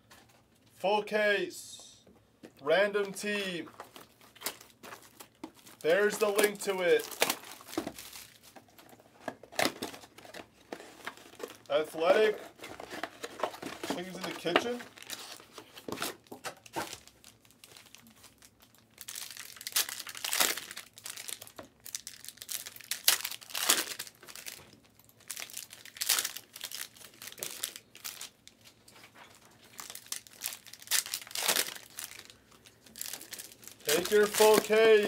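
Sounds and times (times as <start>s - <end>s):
plastic wrappers crinkling and tearing: 3.0s - 35.0s.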